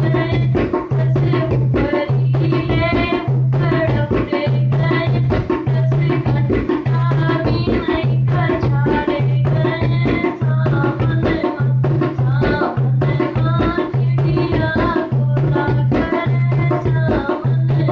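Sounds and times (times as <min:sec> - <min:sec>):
folk song with hand drum: 0:00.0 - 0:17.9
hand-drum rhythm: 0:00.0 - 0:17.9.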